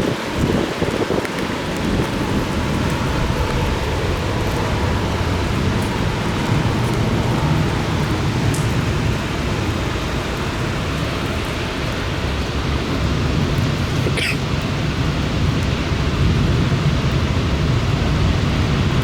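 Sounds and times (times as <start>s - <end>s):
continuous low rumble: 0.0s - 19.0s
heavy rain falling: 0.0s - 19.0s.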